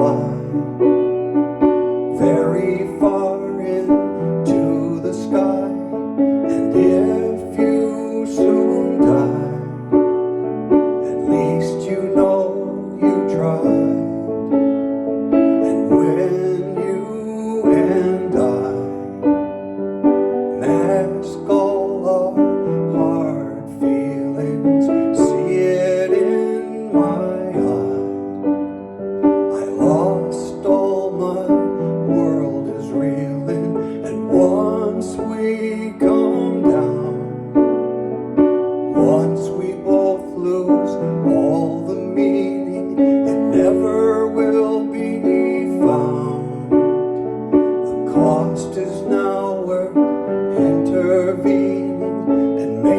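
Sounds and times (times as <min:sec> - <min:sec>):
slow piano chords and melody: 0:00.0 - 0:52.9.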